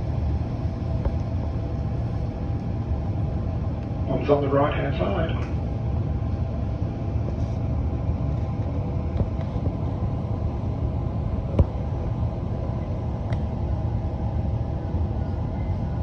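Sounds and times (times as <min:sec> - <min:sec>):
train carriage rumble and hum: 0:00.0 - 0:16.0.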